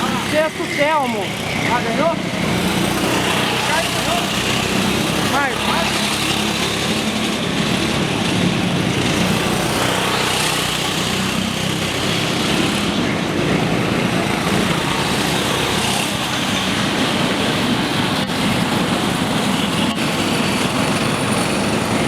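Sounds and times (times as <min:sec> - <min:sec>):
constant noisy background: 0:00.0 - 0:22.0
go-kart engines droning: 0:00.0 - 0:22.0.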